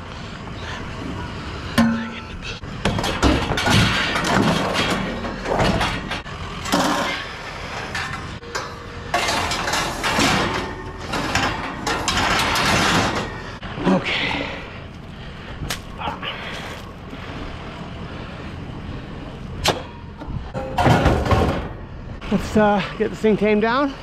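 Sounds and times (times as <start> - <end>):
scrap steel clanking and scraping: 1.1 - 17.4, 19.6 - 23.3.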